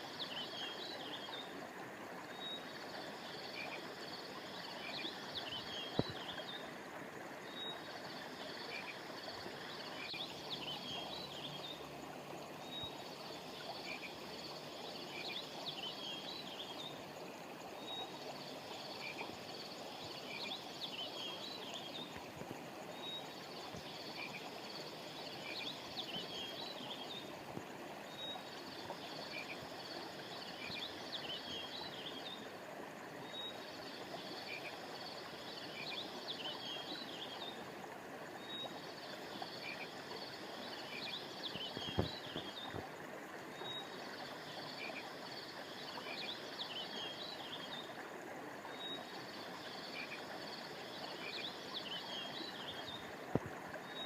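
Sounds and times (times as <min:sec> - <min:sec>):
frogs or insects chirping: 0:00.0 - 0:54.0.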